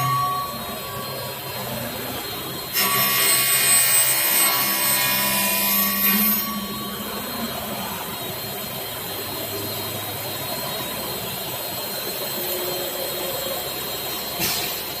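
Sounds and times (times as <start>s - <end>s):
machine running with high whine: 0.0s - 15.0s.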